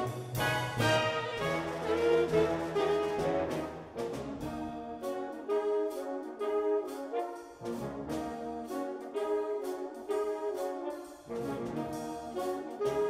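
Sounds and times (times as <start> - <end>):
jazz brass ensemble: 0.0 - 13.0.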